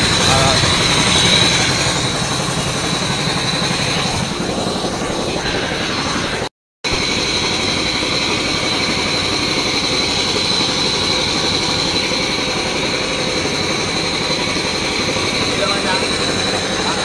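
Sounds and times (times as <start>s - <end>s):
thin high whine: 0.0s - 17.0s
truck engine idling: 0.0s - 17.0s.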